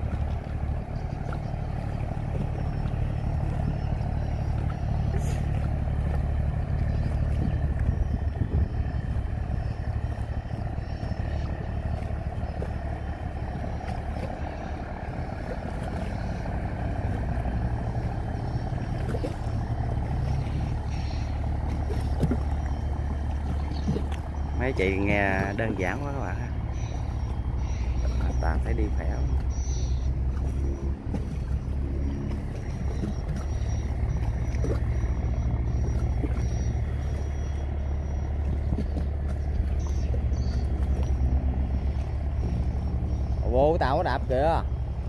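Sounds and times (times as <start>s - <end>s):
boat diesel engine droning: 0.0s - 45.0s.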